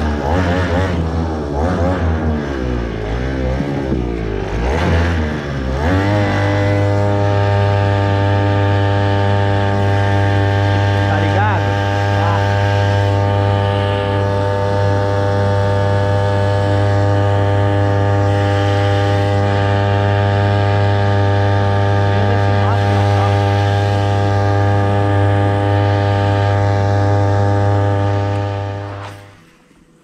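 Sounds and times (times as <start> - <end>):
electric motor humming: 0.0 - 30.0.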